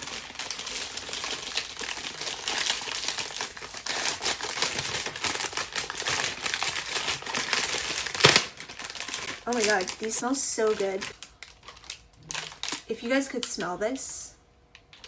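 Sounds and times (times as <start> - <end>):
plastic wrapper crinkling: 0.0 - 13.6.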